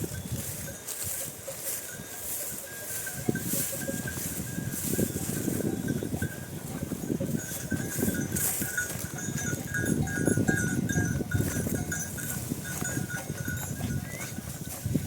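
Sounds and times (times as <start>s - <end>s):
animal bells clanking: 0.0s - 15.0s.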